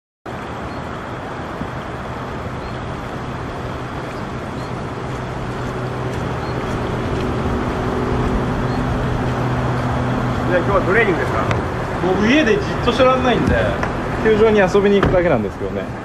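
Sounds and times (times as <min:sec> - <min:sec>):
low hum: 0:00.3 - 0:14.4
car road and engine noise: 0:00.3 - 0:16.0.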